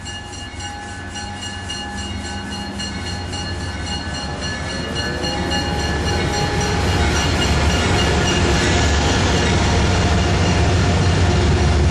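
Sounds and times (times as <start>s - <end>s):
train bell ringing fast: 0.0s - 11.4s
train rumble: 0.0s - 11.9s.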